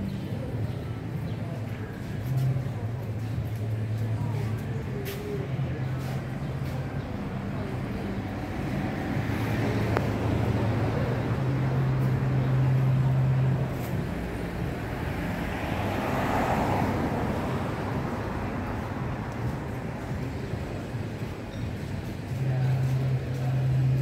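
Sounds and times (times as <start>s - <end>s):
passing traffic rushing: 0.0s - 24.0s
vehicle engine humming: 0.0s - 24.0s.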